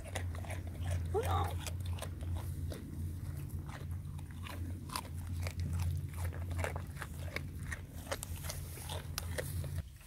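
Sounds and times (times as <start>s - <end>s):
goats crunching carrots: 0.0s - 10.0s
steady low hum: 0.0s - 10.0s.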